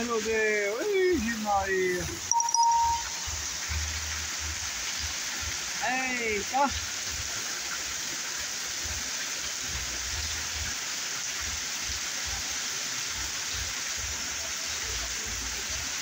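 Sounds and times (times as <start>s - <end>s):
heavy rain pouring: 0.0s - 16.0s
runoff water streaming: 0.0s - 16.0s.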